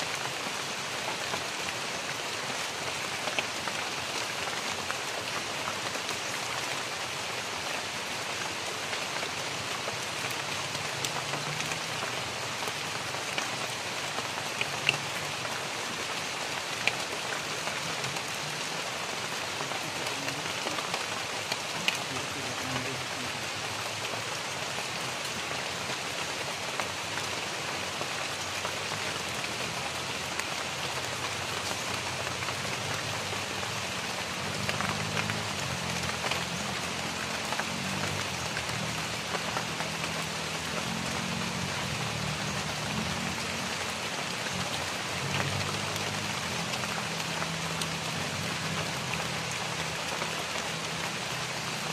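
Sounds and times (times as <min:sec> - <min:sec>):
rain pattering on foliage: 0:00.0 - 0:51.9.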